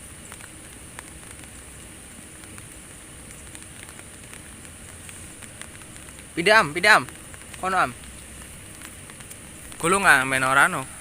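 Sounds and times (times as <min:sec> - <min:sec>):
faint crackles: 0:00.0 - 0:11.0
outdoor background hiss: 0:00.0 - 0:11.0.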